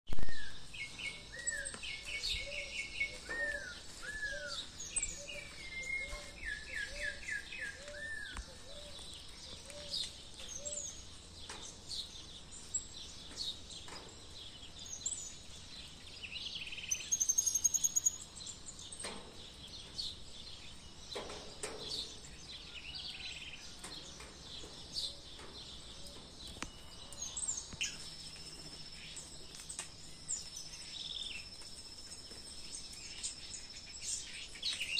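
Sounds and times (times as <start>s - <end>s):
birds calling and singing: 0.1s - 34.9s.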